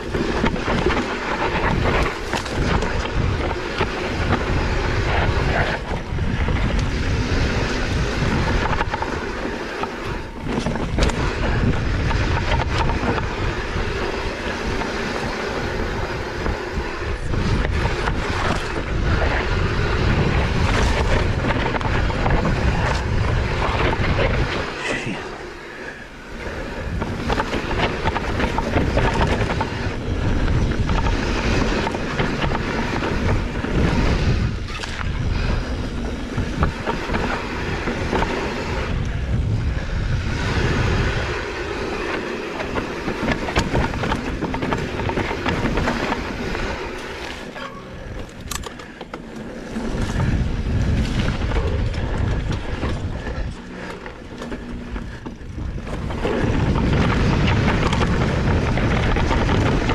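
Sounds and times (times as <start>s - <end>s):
bike rumbling on dirt trail: 0.0s - 59.9s.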